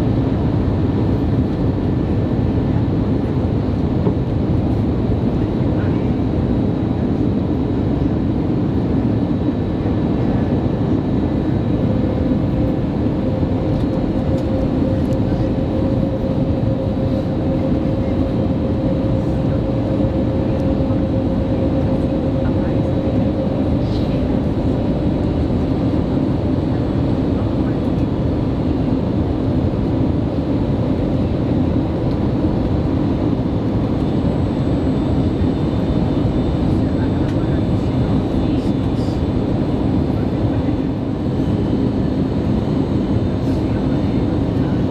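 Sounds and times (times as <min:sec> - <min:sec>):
airplane cabin noise: 0:00.0 - 0:44.9.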